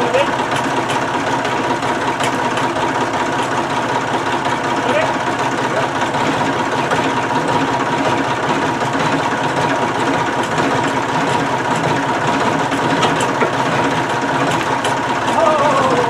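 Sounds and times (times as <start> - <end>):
forklift engine idling: 0.0 - 16.0.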